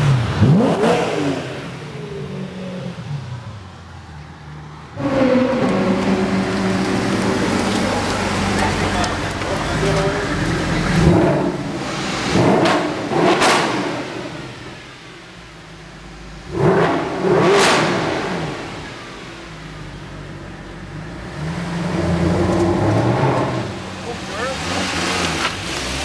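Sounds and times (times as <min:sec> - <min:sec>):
cars passing: 0:00.0 - 0:26.0
sports car engines revving: 0:00.0 - 0:26.0.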